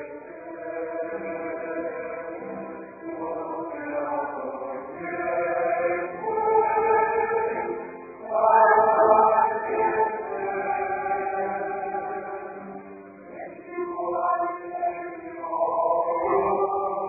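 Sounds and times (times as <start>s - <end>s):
choir singing a slow hymn: 0.0s - 17.0s.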